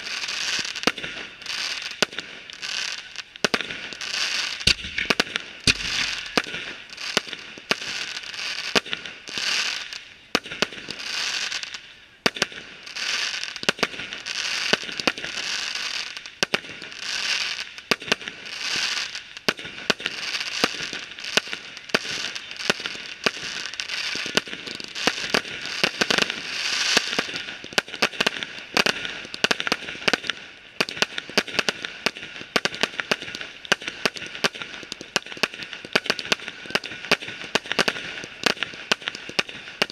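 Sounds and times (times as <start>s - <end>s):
fireworks bangs: 0.0s - 39.9s
fireworks crackling and hiss: 0.0s - 39.9s.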